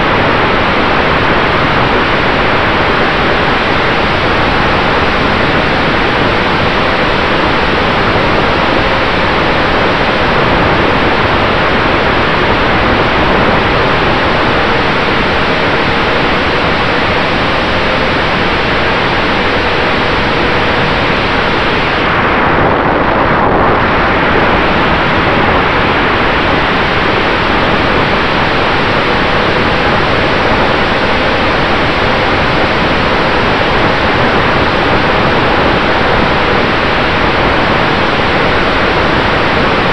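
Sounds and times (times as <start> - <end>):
propeller wash and wind rushing: 0.0 - 39.9.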